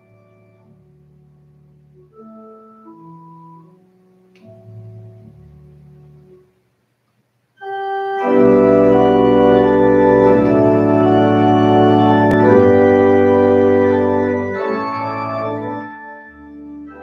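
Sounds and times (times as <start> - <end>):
sustained organ chords: 0.0 - 6.6, 7.6 - 17.0.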